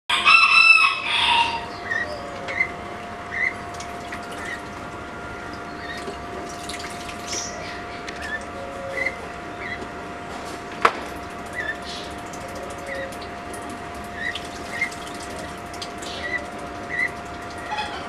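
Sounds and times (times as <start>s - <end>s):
steady machine hum: 0.1s - 18.0s
water dripping into pool: 2.5s - 9.9s, 10.8s - 18.0s.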